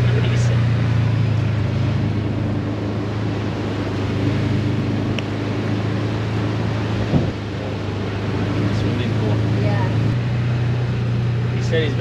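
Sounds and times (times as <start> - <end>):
utv engine humming: 0.0 - 12.0
wind and tyres rushing: 0.8 - 11.9.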